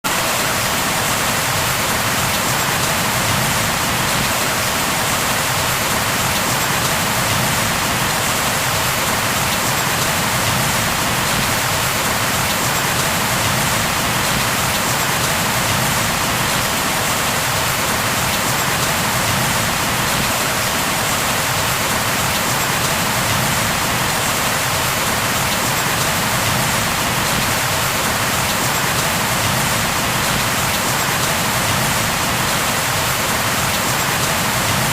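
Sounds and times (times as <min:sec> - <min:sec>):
heavy rain falling: 0:00.1 - 0:34.9.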